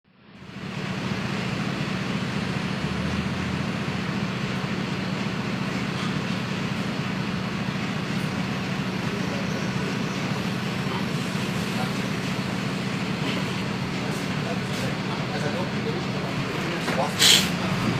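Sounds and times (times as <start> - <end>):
bus diesel engine humming: 0.1 - 17.9.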